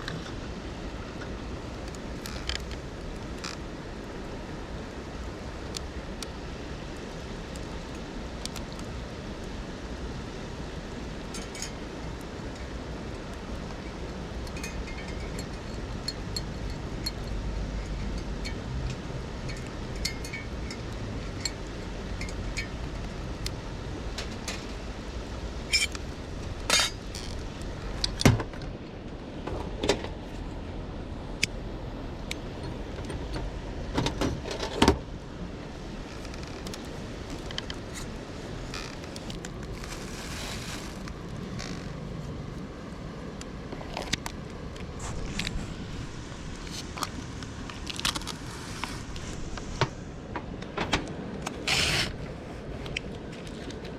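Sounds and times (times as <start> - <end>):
river rushing: 0.0 - 29.4, 35.0 - 53.9.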